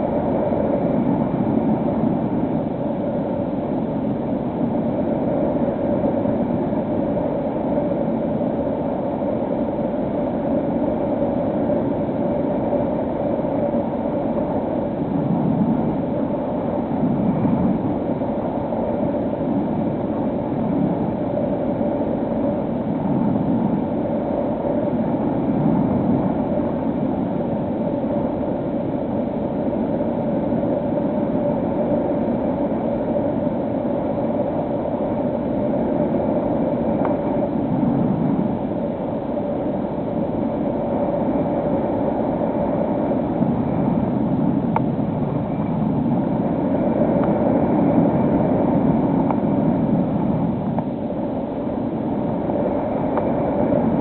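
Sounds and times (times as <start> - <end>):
rushing wind noise: 0.0 - 54.0.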